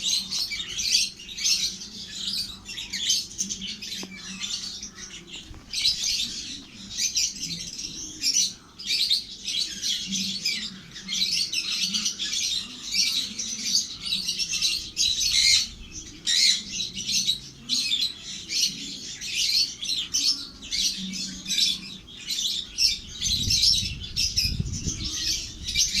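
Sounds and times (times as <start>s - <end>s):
baby parrots squawking and chirping: 0.0s - 26.0s.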